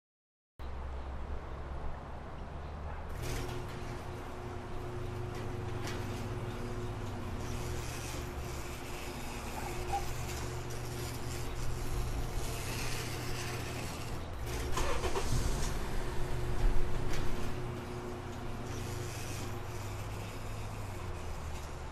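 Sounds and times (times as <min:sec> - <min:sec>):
car engine humming: 0:00.8 - 0:21.9
rustling: 0:03.1 - 0:21.9.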